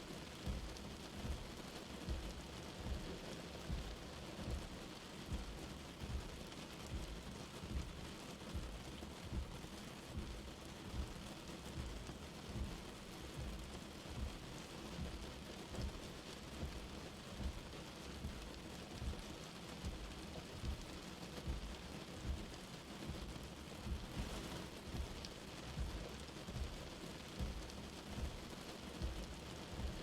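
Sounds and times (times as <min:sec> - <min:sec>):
light rain patter: 0:00.0 - 0:30.0.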